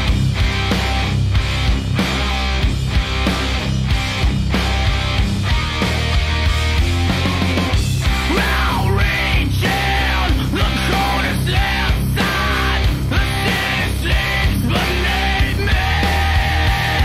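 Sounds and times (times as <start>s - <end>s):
loud hard rock music: 0.0s - 17.0s.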